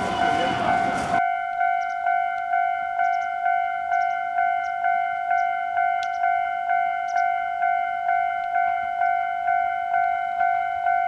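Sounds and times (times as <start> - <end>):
level-crossing warning bell ringing: 0.0 - 11.0.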